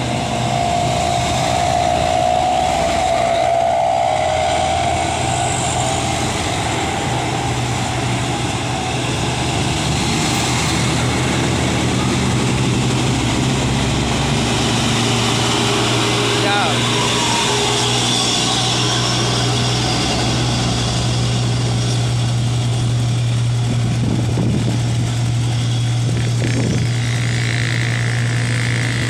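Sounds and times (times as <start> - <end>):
high whine: 0.0 - 29.0
truck engine under load: 0.0 - 29.0.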